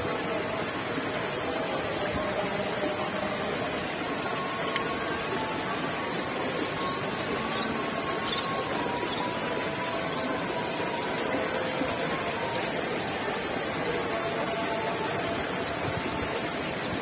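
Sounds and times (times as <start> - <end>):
stream flowing over rocks: 0.0 - 17.0.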